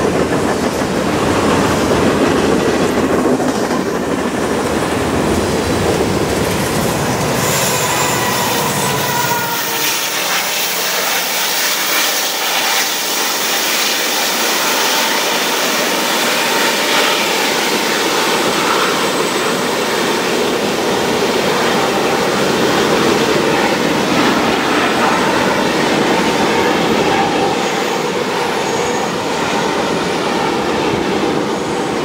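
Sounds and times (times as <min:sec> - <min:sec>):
freight train wheels rumbling: 0:00.0 - 0:32.0.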